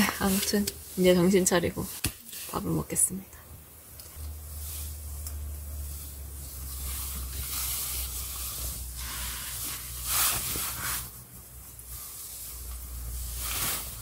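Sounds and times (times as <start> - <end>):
soft rushing hiss: 0.0 - 14.0.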